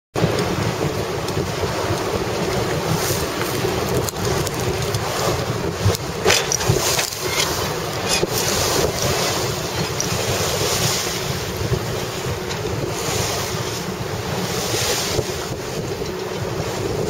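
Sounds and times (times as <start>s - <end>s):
water splashing: 0.2s - 17.0s
wind buffeting microphone: 0.2s - 17.0s.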